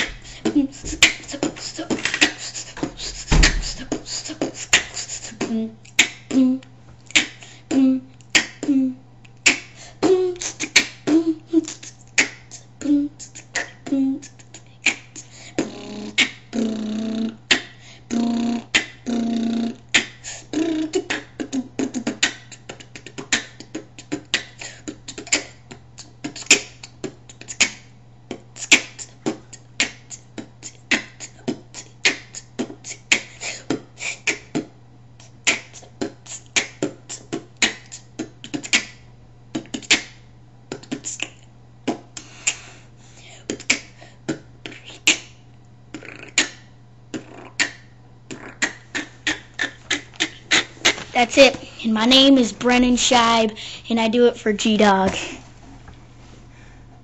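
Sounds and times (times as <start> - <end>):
boy beatboxing: 0.0 - 55.4
steady low hum: 0.0 - 57.0.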